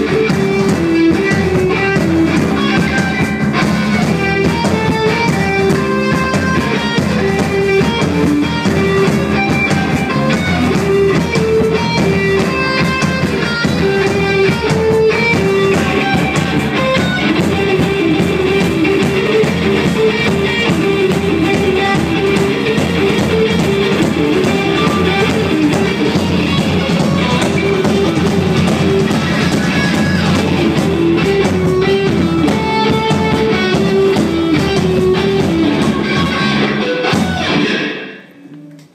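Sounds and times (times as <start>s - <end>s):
rock music with guitar and drums: 0.0s - 38.4s.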